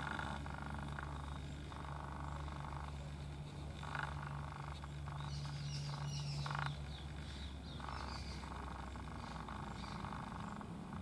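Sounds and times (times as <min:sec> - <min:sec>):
birds chirping: 0:00.0 - 0:11.0
rasping bird calls: 0:00.0 - 0:11.0
steady low hum: 0:00.0 - 0:11.0.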